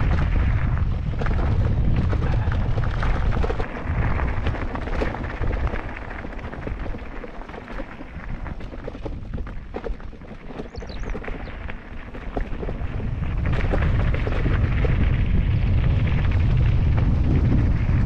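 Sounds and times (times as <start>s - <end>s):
bike tyres crunching on trail: 0.0s - 18.0s
wind buffeting microphone: 0.0s - 18.0s.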